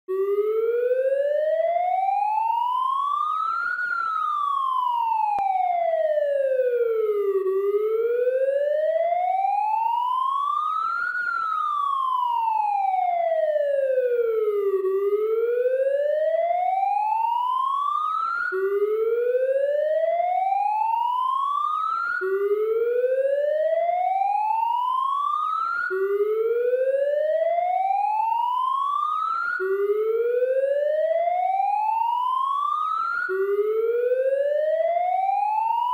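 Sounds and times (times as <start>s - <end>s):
police siren wailing: 0.1s - 35.9s.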